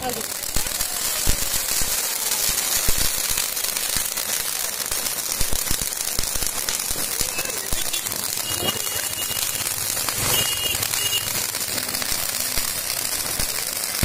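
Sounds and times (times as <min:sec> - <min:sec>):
crackles and pops: 0:00.0 - 0:14.0
fireworks hissing: 0:00.0 - 0:14.0.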